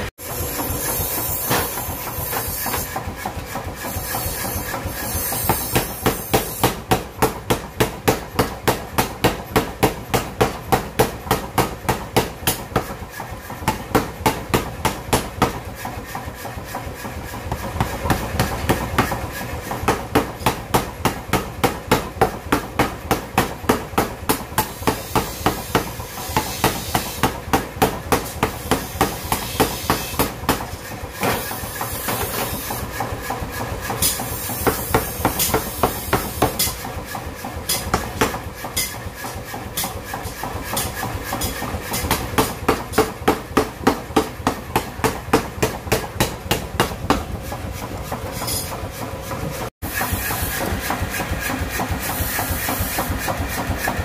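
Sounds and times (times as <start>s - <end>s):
machine running noise: 0.0s - 54.0s
power hammer pounding metal: 0.0s - 54.0s.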